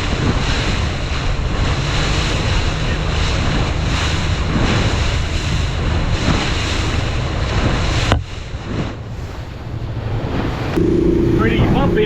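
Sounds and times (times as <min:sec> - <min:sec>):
motorboat engine rumble: 0:00.0 - 0:12.0
rushing water: 0:00.0 - 0:12.0
wind buffeting microphone: 0:00.0 - 0:12.0.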